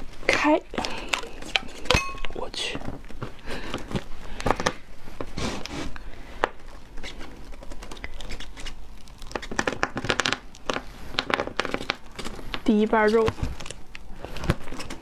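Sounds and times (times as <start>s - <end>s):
fruit husk crackling and tearing: 0.0s - 15.0s.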